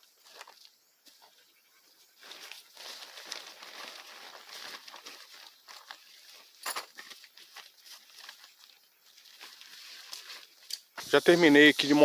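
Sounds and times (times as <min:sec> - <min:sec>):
tent and tarp rustling: 0:00.0 - 0:01.4, 0:02.0 - 0:12.0.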